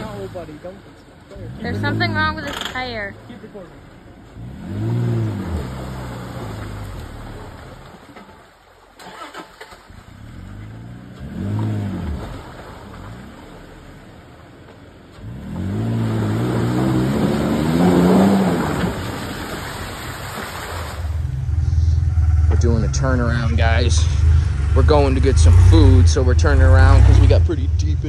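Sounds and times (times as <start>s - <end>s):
truck engine revving: 0.0s - 8.3s, 9.0s - 14.5s, 15.1s - 28.0s.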